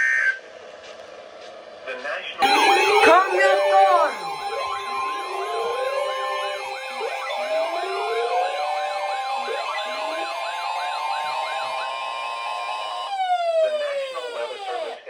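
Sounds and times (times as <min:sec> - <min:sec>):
electronic sirens yelping and wailing: 0:02.4 - 0:15.0
two-note alert tone: 0:02.4 - 0:15.0.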